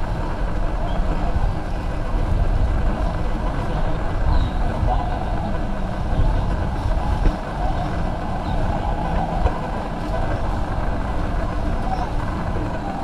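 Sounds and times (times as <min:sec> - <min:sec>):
crowd of shoppers: 0:00.0 - 0:13.0
steady rumble: 0:00.0 - 0:13.0.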